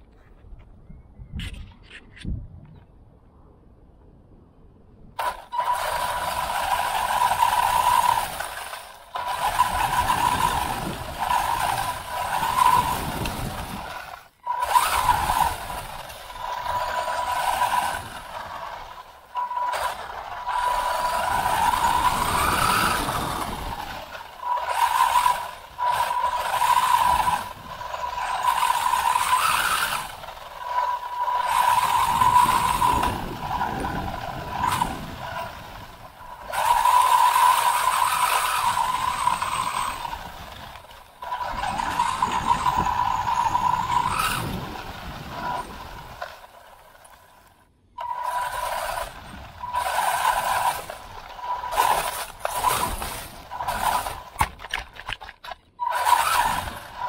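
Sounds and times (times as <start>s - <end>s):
electric motor whining: 5.2s - 57.0s
toy car rattling over grass: 5.2s - 57.0s.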